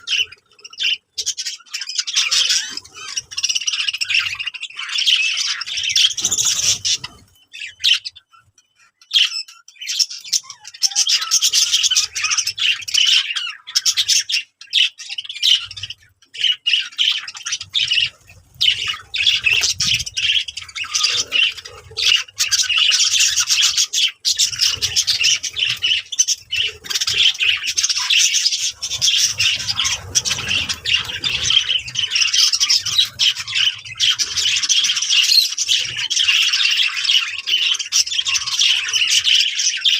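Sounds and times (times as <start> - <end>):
birds calling harshly: 0.0 - 39.9.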